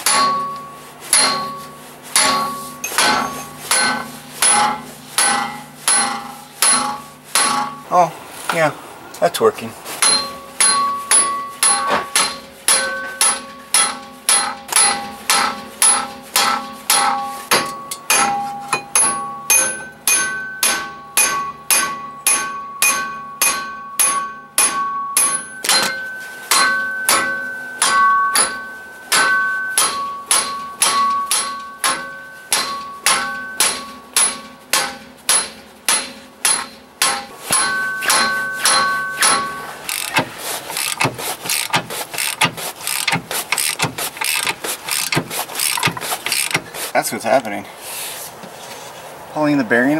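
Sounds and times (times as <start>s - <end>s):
hammer blows on metal hub: 0.0s - 8.7s, 9.3s - 47.6s.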